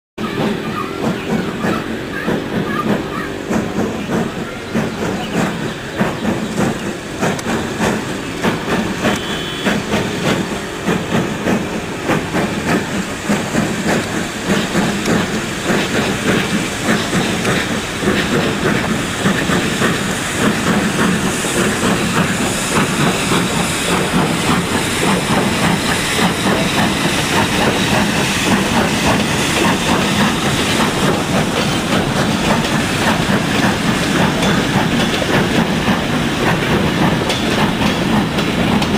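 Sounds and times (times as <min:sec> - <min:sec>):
steam locomotive exhaust beat: 0:00.2 - 0:38.9
train wheels clattering over rail joints: 0:00.2 - 0:38.9.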